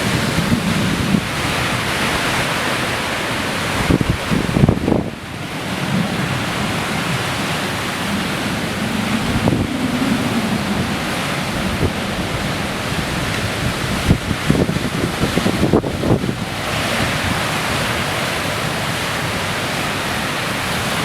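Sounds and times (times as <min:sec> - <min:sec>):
heavy surf: 0:00.0 - 0:21.0
strong wind on microphone: 0:00.0 - 0:21.0.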